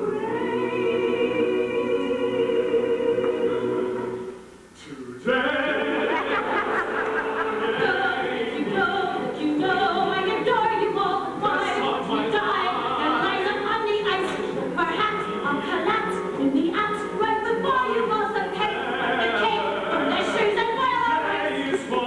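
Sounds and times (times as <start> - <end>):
show-tune singing with accompaniment: 0.0 - 22.0.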